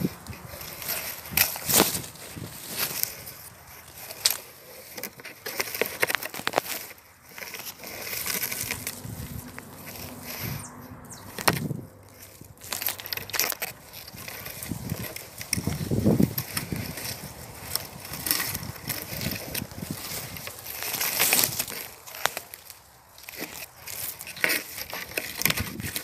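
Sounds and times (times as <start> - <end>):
dry leaves and twigs crunching: 0.0 - 26.0
twigs snapping: 0.0 - 26.0.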